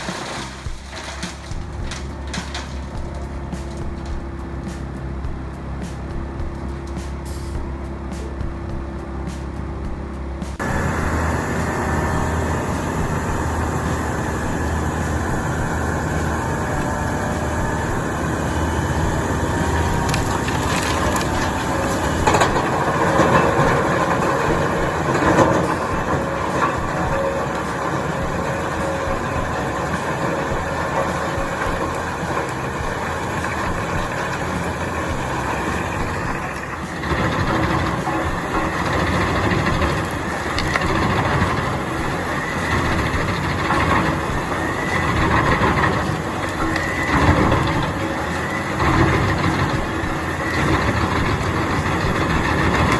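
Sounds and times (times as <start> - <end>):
shredding machine grinding: 0.0 - 4.9, 10.6 - 52.9.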